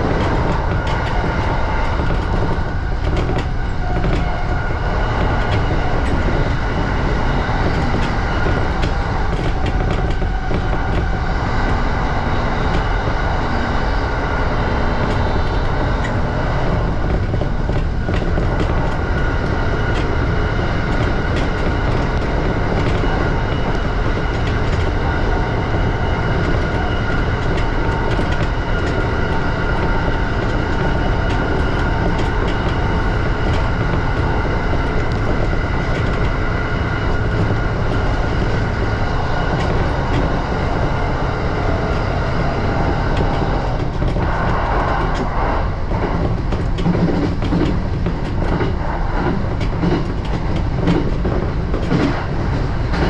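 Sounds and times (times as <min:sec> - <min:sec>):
sharp clicks over rails: 0:00.0 - 0:53.0
train wheels rumbling on rail: 0:00.0 - 0:53.0.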